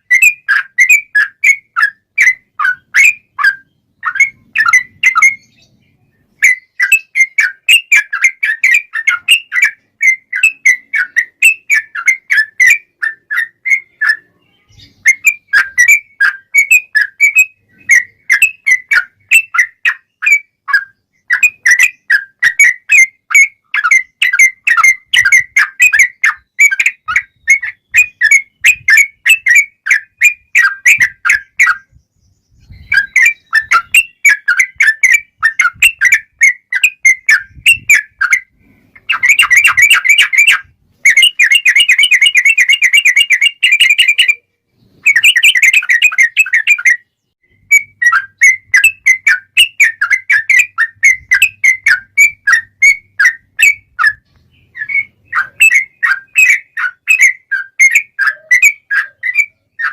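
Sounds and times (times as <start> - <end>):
bird singing whistled trills: 0.0 - 59.9.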